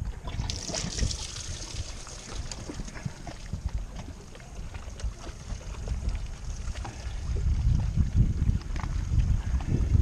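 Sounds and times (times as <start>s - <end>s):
water splashing against boat hull: 0.0s - 9.0s
wind on microphone: 0.0s - 10.0s.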